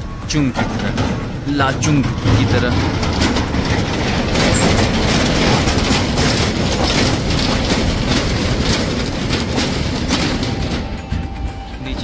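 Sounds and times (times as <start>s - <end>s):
vehicle rattling: 0.0s - 12.0s
vehicle road and engine rumble: 0.0s - 12.0s.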